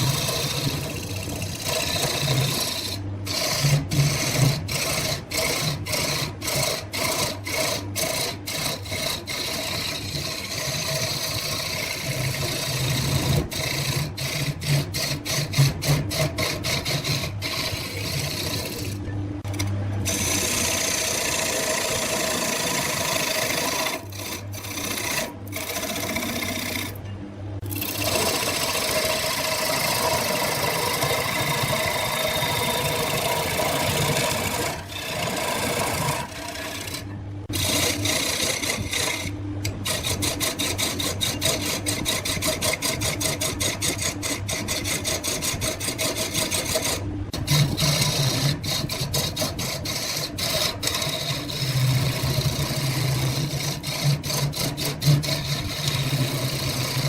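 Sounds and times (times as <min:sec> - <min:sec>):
lathe motor hum: 0:00.0 - 0:27.0, 0:27.6 - 0:57.0
tool scraping spinning wood: 0:00.0 - 0:27.0, 0:27.6 - 0:57.0.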